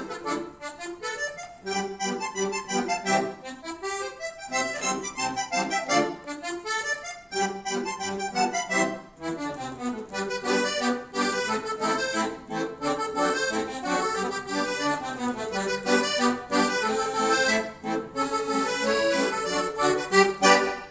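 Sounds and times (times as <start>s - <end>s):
accordion duet: 0.0s - 20.9s.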